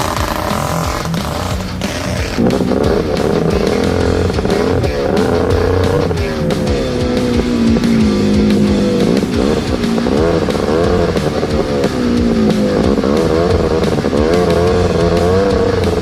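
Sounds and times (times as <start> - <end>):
buggy engine revving: 0.0 - 16.0
rock music with guitar: 0.0 - 16.0.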